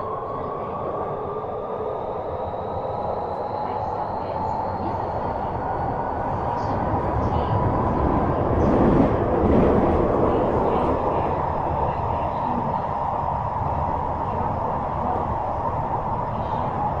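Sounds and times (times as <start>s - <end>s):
rail and wheel rumble: 0.0s - 17.0s.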